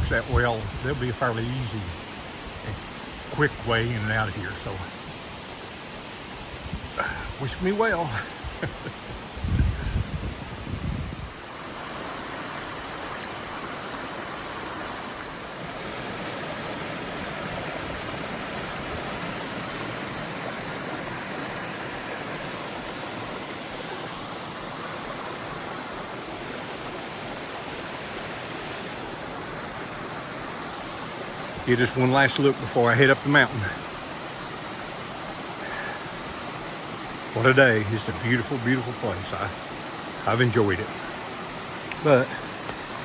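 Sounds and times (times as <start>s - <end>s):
water rushing over rocks: 0.0s - 43.0s.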